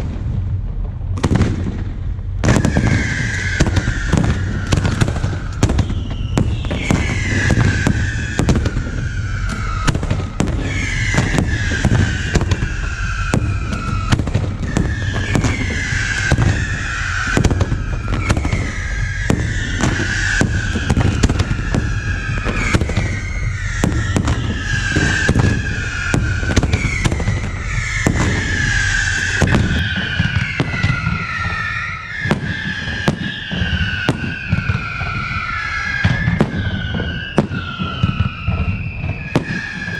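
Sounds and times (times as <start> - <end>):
falling whistles of fireworks: 0.0 - 39.9
fireworks bangs and crackles: 0.0 - 39.9.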